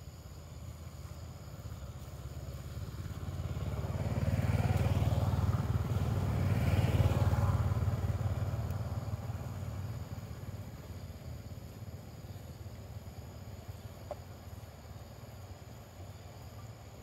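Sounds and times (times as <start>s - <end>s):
motorcycle passing by: 0.2s - 17.0s.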